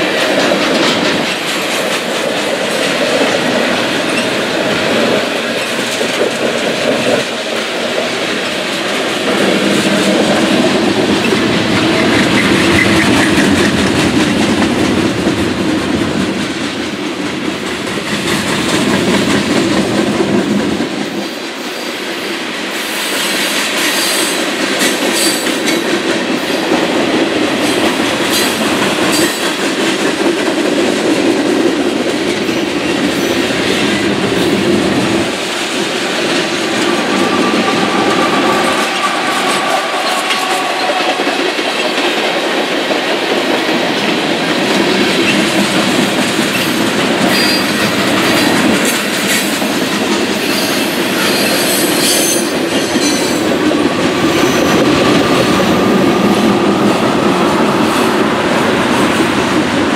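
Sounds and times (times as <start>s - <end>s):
diesel locomotive passing: 0.0s - 59.9s
freight train wheels clattering: 0.0s - 59.9s.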